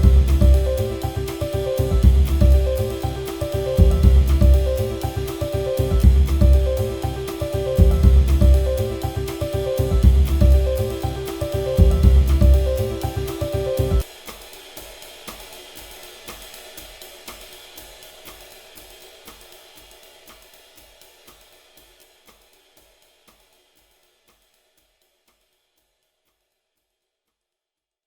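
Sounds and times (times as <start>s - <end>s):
ambient music drum beat: 0.0s - 24.5s.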